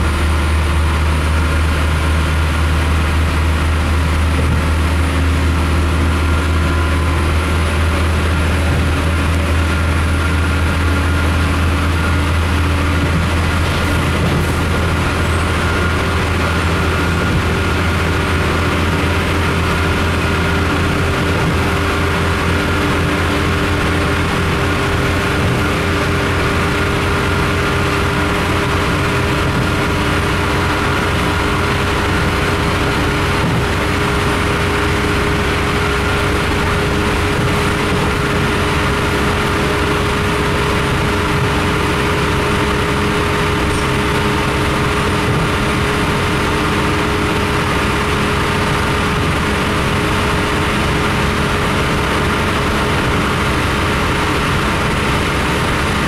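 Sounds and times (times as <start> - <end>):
diesel engine drone: 0.0 - 56.0
train running noise: 0.0 - 56.0.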